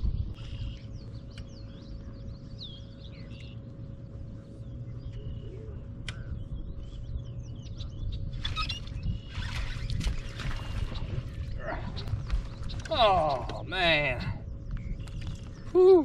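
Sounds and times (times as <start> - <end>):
faint steady hum: 0.0 - 16.0
low steady rumble: 0.0 - 16.0
small birds chirping: 0.0 - 16.0.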